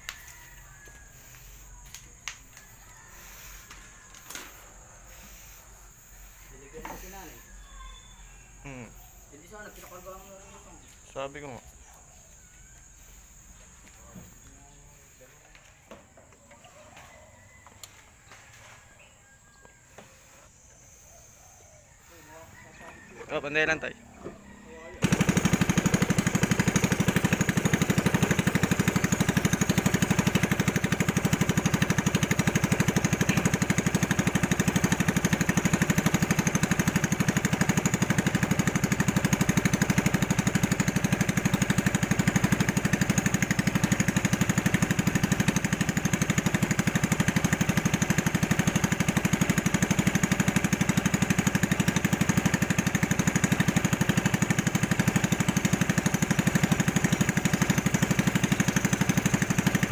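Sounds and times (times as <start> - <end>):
small boat engine running: 0.0 - 12.2, 12.8 - 16.7, 19.9 - 59.9.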